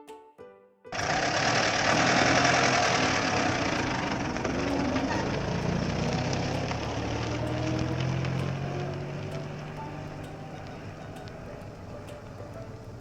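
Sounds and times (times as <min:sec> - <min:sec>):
vehicle engine running: 0:01.0 - 0:13.0.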